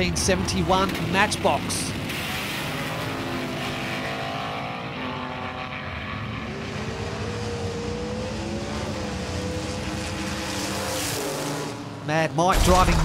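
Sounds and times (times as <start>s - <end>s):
race car engine drone: 0.0s - 13.0s.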